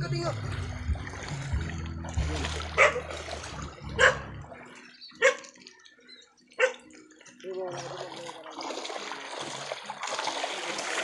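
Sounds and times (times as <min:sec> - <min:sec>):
splashes in shallow water: 0:00.4 - 0:11.0.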